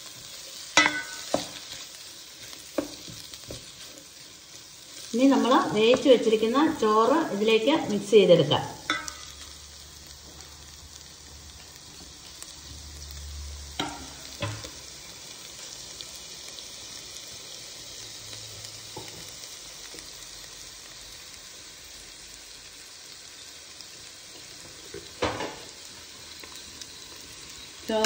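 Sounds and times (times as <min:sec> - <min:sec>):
rice sizzling in a pan: 0:00.0 - 0:28.0.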